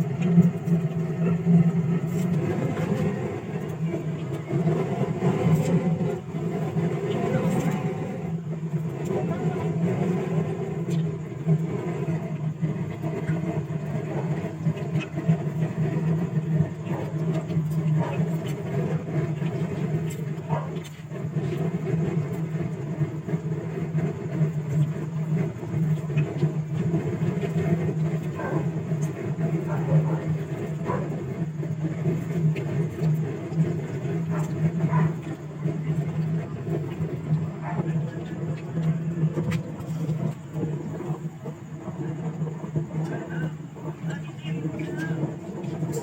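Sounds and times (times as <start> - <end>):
mechanical hum: 0.0 - 46.0.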